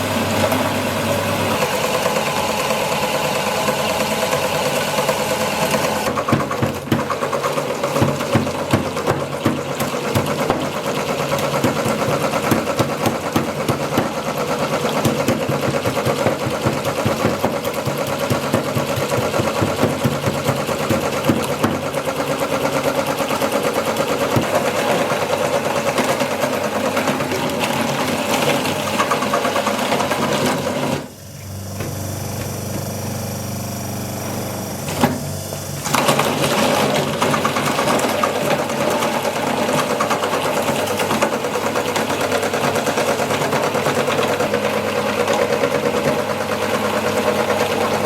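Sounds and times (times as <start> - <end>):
electric meat grinder: 0.0 - 48.0.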